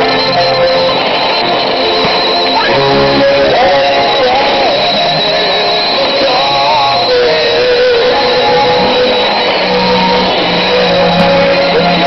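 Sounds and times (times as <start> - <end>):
music from shortwave radio: 0.0 - 12.0.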